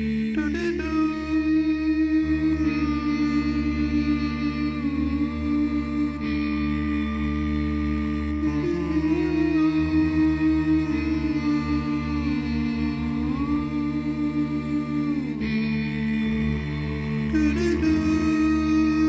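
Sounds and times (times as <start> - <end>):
low drone: 0.0 - 19.0.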